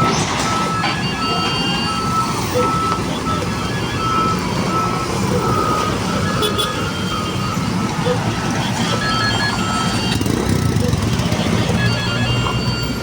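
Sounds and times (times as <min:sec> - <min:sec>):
heavy machinery engines rumbling: 0:00.0 - 0:13.0
reversing alarm beeping: 0:00.0 - 0:13.0.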